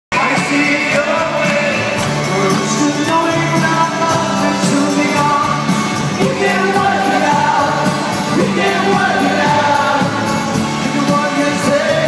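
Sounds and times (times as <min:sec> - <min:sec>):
live rock band: 0:00.1 - 0:12.0
person singing: 0:00.1 - 0:12.0.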